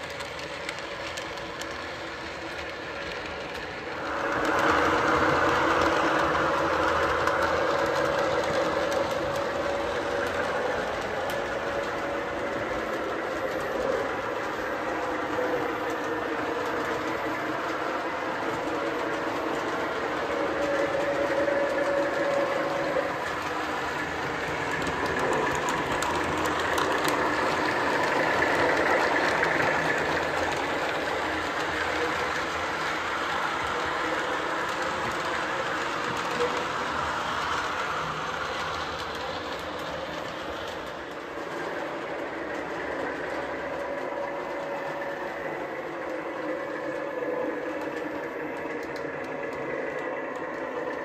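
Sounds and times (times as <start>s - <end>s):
clanking railcar engine sound: 0.0s - 51.0s
model train rolling on track: 0.0s - 51.0s.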